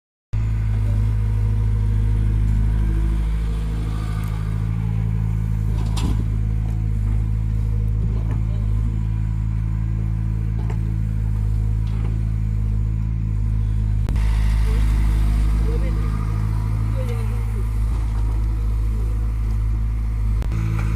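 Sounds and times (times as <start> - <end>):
diesel engine running: 0.4 - 20.9.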